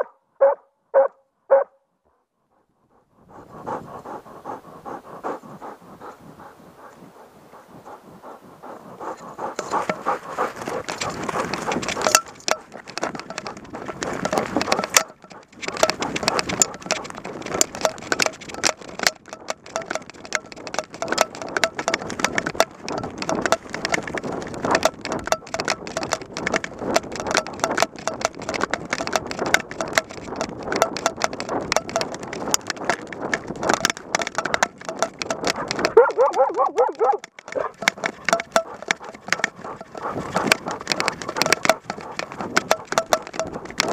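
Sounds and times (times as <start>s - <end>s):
rustling and crackling of twigs: 3.3s - 43.9s.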